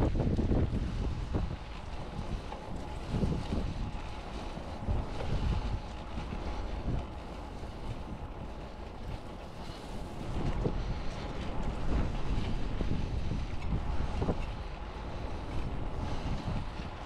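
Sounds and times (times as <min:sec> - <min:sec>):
bicycle riding noise: 0:00.0 - 0:17.0
wind buffeting microphone: 0:00.0 - 0:17.0.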